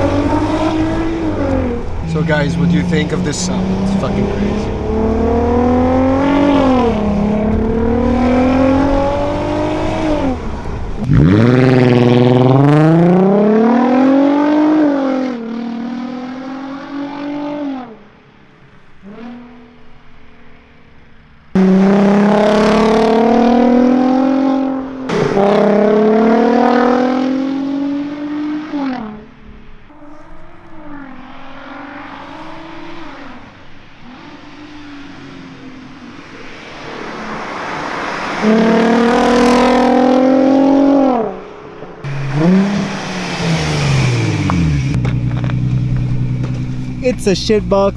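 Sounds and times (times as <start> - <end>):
car engine accelerating hard: 0.0 - 18.2, 21.5 - 47.9.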